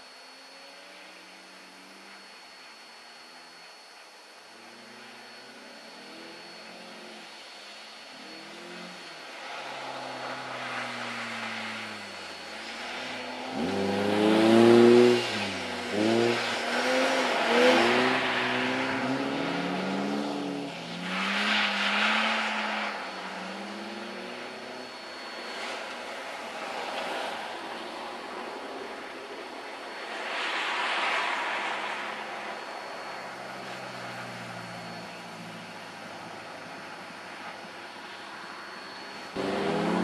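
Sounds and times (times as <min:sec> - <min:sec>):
car engines revving: 0:04.6 - 0:40.0.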